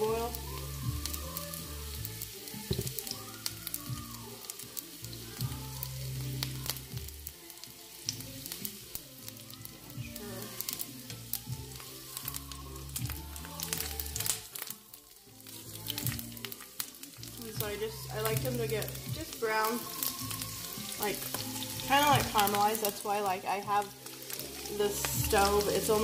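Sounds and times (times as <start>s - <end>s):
onions sizzling and popping in oil: 0.0s - 26.0s.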